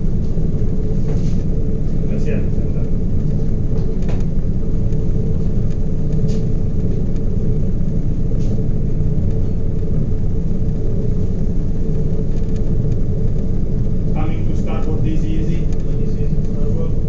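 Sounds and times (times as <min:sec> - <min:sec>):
constant machinery hum: 0:00.0 - 0:17.0
ship engine low rumble: 0:00.0 - 0:17.0.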